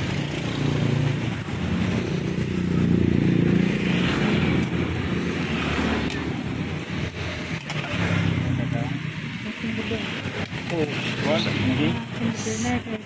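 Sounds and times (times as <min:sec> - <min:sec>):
motorbike engine passing: 0:00.0 - 0:12.7.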